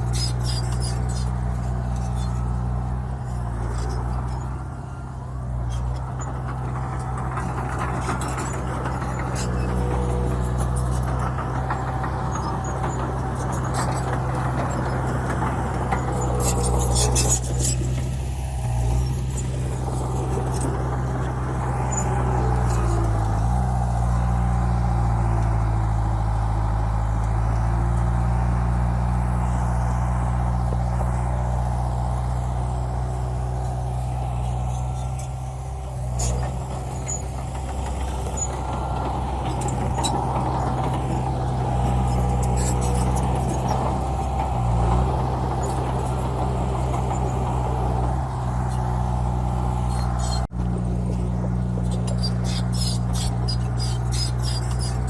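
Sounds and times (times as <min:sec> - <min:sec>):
diesel machine engine running: 0:00.0 - 0:55.0.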